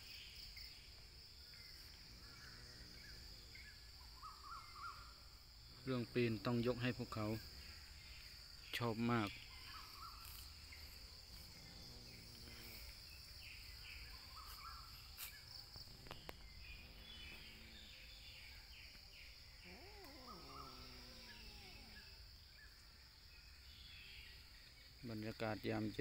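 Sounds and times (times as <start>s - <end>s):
crickets buzzing drone: 0.0s - 26.0s
faint insect chirps: 0.0s - 26.0s.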